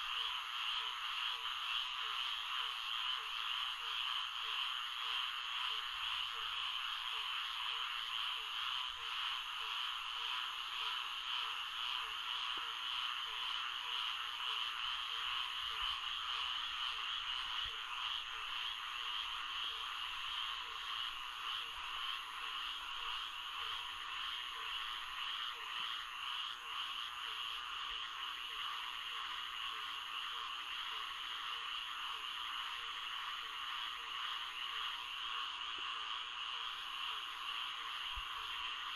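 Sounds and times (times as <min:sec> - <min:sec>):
frog chorus: 0:00.0 - 0:38.9
low repeating frog call: 0:00.0 - 0:38.9.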